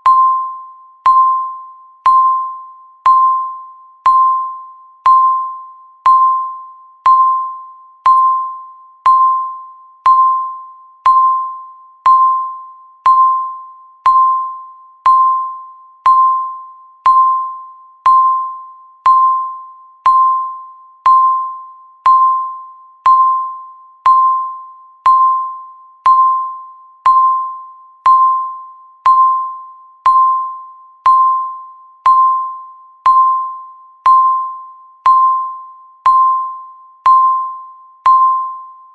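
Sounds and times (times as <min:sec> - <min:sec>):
countdown timer beeping: 0:00.0 - 0:38.8.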